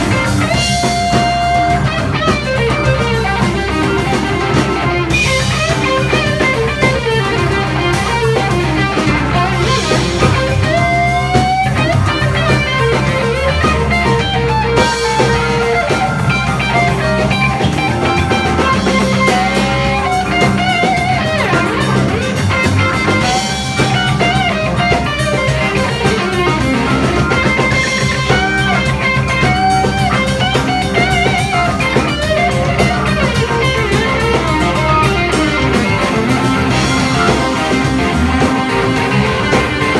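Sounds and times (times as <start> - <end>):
bass line: 0.0 - 39.9
drums with cymbal crashes: 0.0 - 39.9
electric guitar solo: 0.0 - 39.9.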